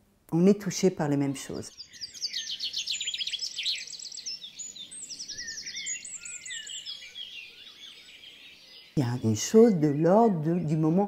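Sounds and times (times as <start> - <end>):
songbirds chirping and trilling: 0.3 - 11.0.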